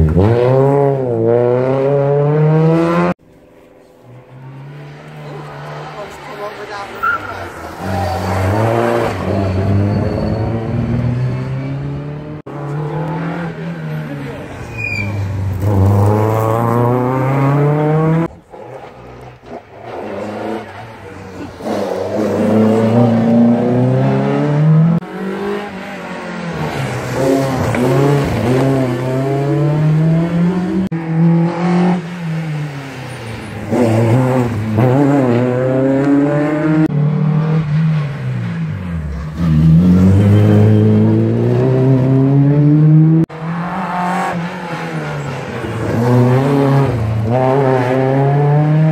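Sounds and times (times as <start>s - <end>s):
rally car engines revving: 0.0s - 48.9s.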